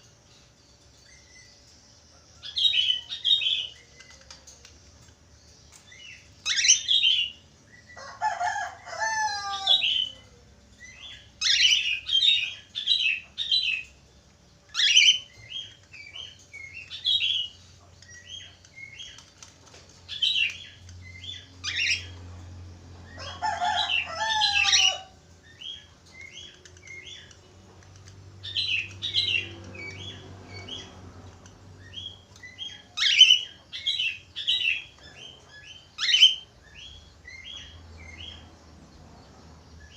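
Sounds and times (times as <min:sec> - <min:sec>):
parakeets chattering and whistling: 0:00.4 - 0:39.9.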